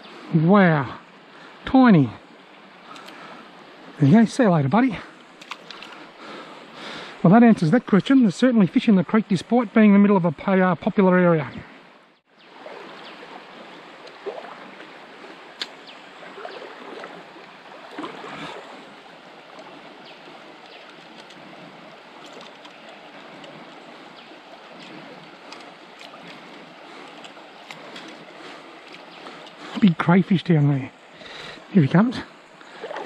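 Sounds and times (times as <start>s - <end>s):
creek water babbling: 0.0s - 33.0s.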